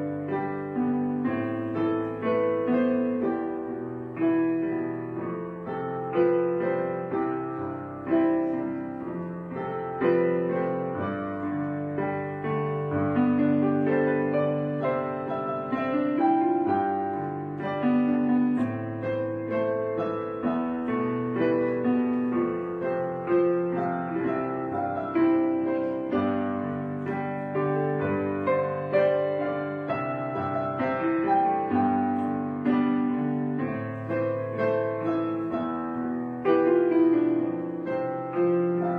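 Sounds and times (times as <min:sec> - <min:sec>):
slow piano music: 0:00.0 - 0:38.9.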